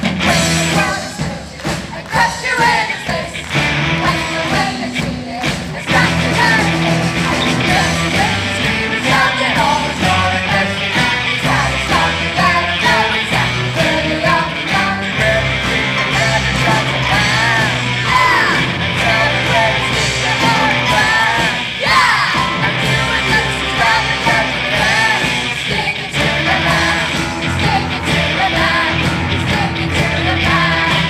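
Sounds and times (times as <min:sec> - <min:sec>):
chorus singing and shouting: 0:00.0 - 0:31.0
live rock band playing: 0:00.0 - 0:31.0.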